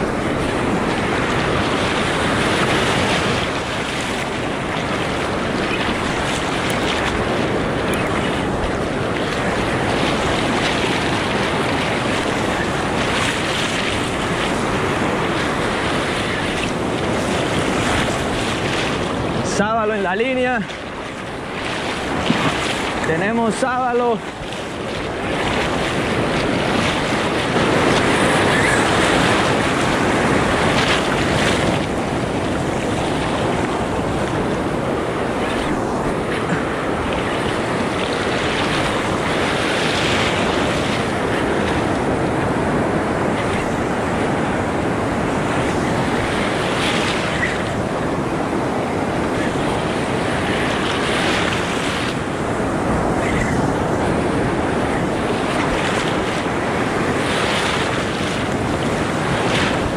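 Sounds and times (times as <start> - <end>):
ocean surf breaking: 0.0 - 59.9
wind buffeting microphone: 0.0 - 59.9.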